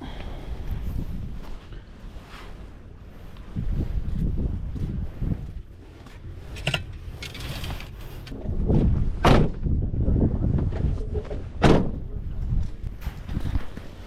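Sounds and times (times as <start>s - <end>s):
wind buffeting microphone: 0.0s - 2.2s, 3.0s - 14.0s.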